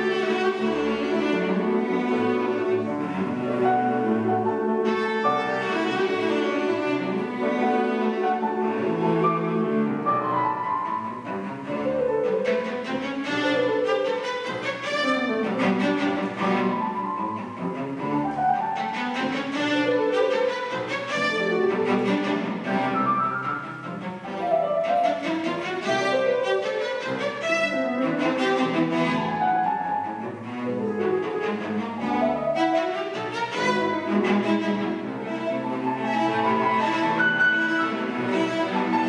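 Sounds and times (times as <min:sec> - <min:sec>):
bowed cello melody: 0:00.0 - 0:39.0
piano accompaniment: 0:00.0 - 0:39.0.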